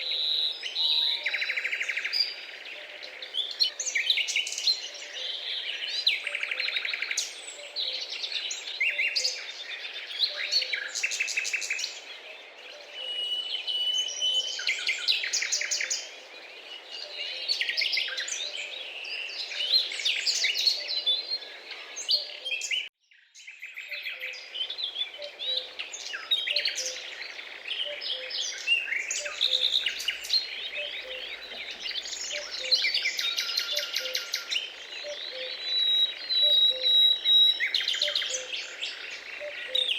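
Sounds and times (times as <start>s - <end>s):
chorus of wild birds: 0.0s - 39.9s.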